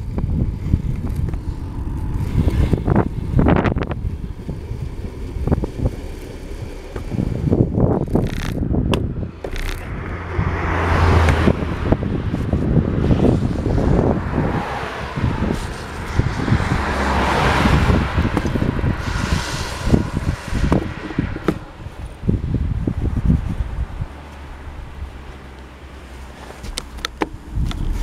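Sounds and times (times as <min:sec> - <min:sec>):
wind buffeting microphone: 0:00.0 - 0:25.6, 0:26.6 - 0:28.0.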